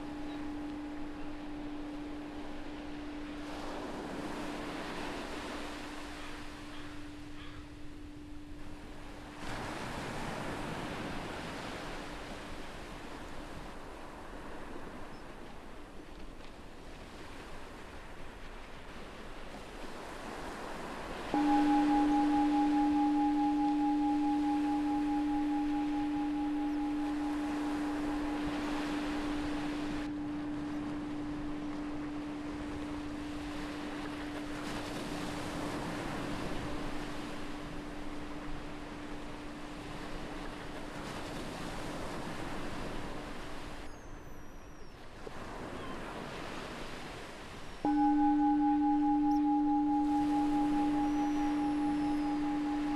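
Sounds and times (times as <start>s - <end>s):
low steady ringing tone: 0.0s - 15.3s, 19.9s - 44.8s, 47.7s - 52.9s
ocean surf on beach: 0.0s - 43.9s, 44.9s - 52.9s.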